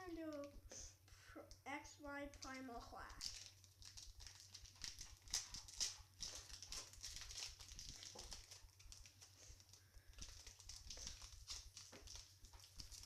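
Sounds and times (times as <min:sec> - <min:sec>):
foil wrapper crinkling and tearing: 0:02.4 - 0:13.0.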